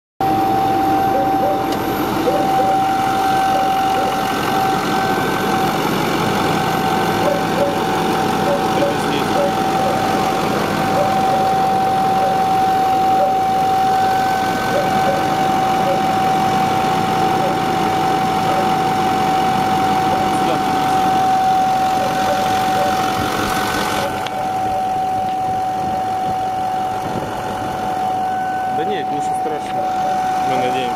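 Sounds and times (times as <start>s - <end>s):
high-pitched whine: 0.2s - 30.9s
truck engine idling: 0.2s - 30.9s.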